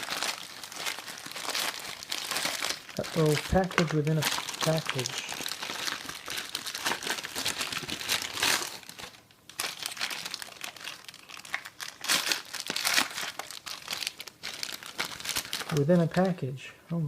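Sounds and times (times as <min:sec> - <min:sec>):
packaging crinkling and rustling: 0:00.0 - 0:16.3.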